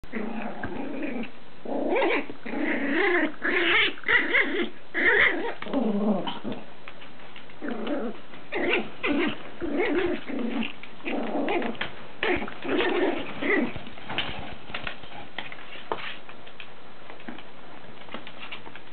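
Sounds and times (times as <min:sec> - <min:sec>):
puppy play-growling: 0:00.0 - 0:18.9.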